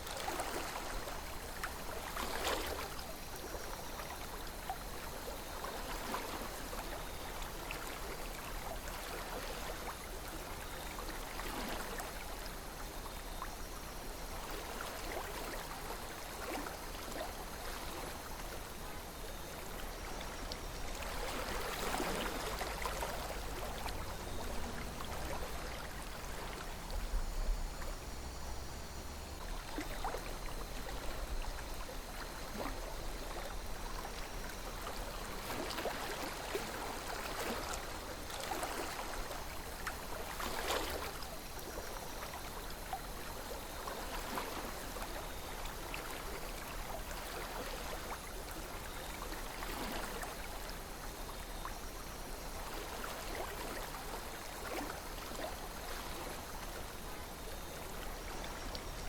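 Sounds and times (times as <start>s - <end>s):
small water splashes and gurgles: 0.0s - 59.0s.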